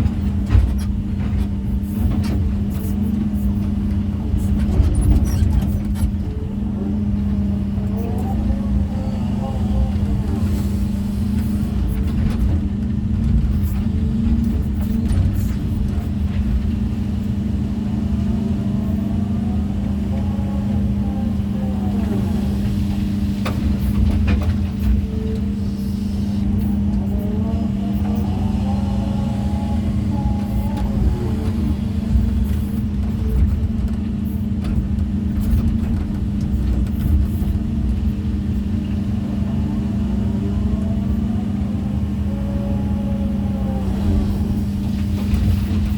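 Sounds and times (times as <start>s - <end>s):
excavator diesel engine running: 0.0s - 45.9s
hydraulic whine: 0.0s - 45.9s.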